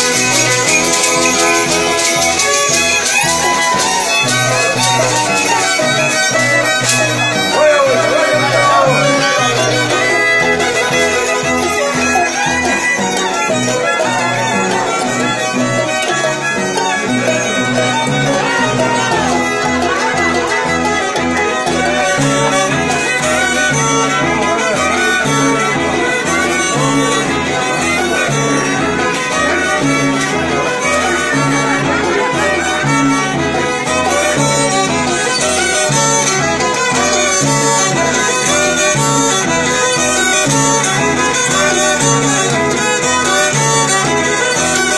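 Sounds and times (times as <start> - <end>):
violins playing melody: 0.0 - 44.9.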